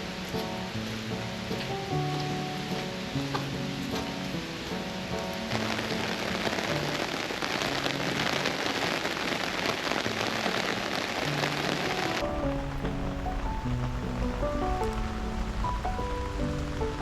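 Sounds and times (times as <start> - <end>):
soft background music: 0.0 - 17.0
steady rain falling: 0.0 - 17.0.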